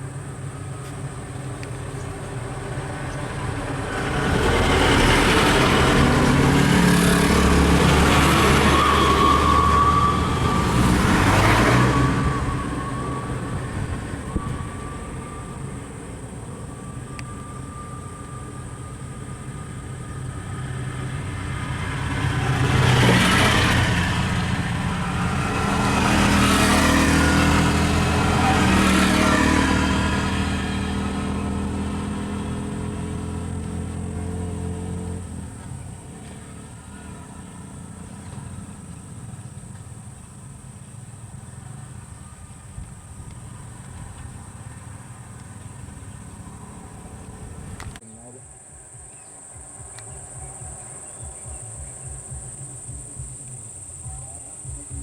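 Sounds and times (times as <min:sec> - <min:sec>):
vehicle engine revving: 0:00.0 - 0:55.0.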